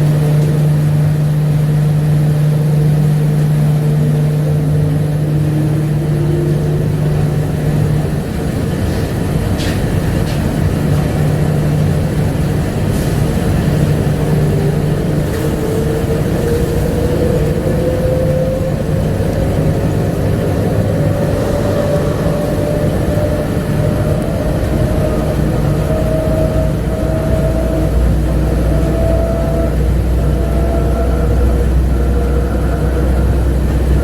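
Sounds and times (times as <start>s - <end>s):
traction motor whine rising: 0.0s - 8.6s, 10.9s - 34.0s
train hum and running rumble: 0.0s - 34.0s.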